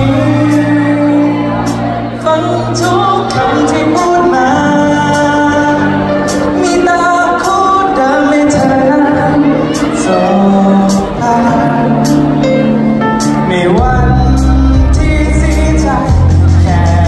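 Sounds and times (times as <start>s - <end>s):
backing track over sound system: 0.0s - 17.0s
man singing pop song: 0.0s - 17.0s.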